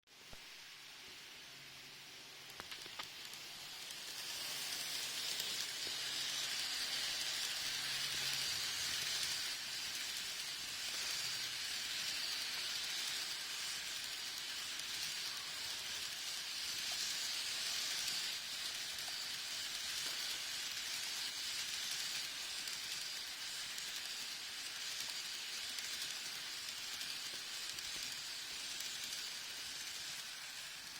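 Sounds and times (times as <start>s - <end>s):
model train wheels rolling on rail: 0.2s - 30.9s.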